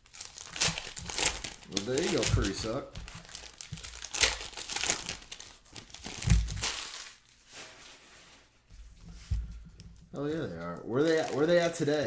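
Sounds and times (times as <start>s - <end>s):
plastic wrappers crinkling: 0.0s - 8.5s, 9.8s - 12.0s.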